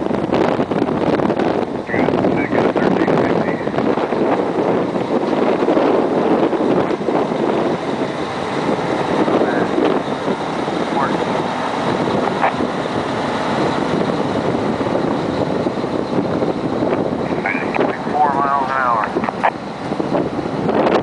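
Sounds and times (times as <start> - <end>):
tractor diesel engine running: 0.0 - 21.0
wind noise on microphone: 0.0 - 21.0.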